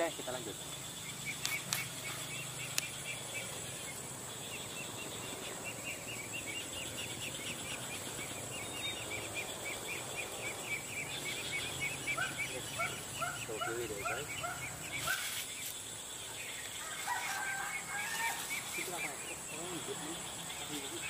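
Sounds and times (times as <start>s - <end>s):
bird chirping: 0.0s - 21.0s
steady high-pitched whine: 0.0s - 21.0s.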